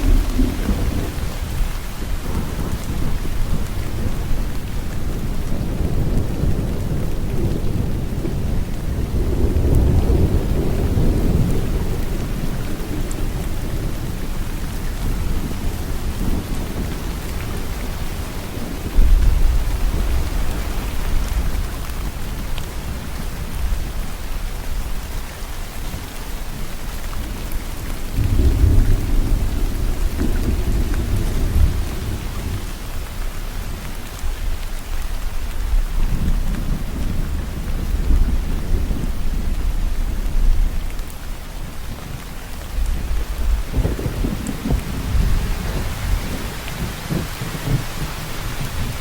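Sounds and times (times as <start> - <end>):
low rolling thunder: 0.0 - 25.2, 26.0 - 34.7, 35.3 - 49.0
rain falling: 0.0 - 49.0.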